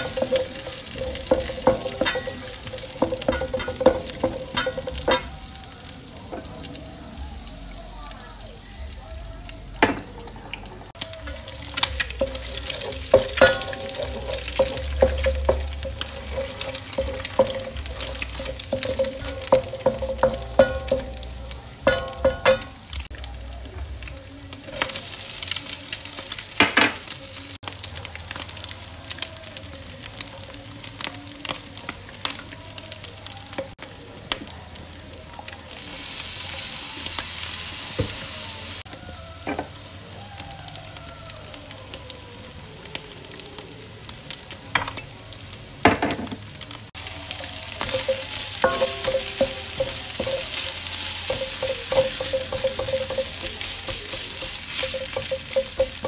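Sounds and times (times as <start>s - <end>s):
food sizzling in a wok: 0.0s - 56.0s.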